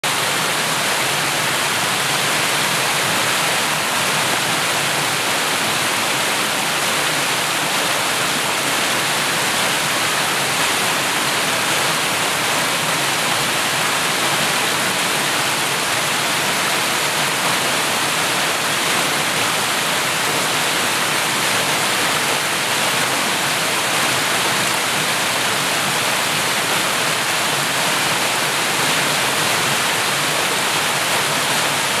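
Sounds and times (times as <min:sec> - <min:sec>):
waterfall splashing over rocks: 0:00.0 - 0:32.0.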